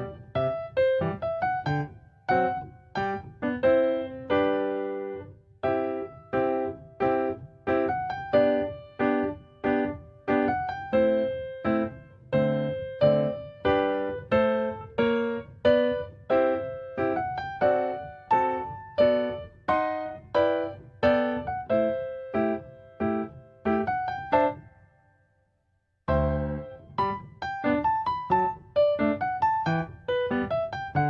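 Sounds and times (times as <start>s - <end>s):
gentle piano melody: 0.0s - 25.0s, 26.1s - 31.0s.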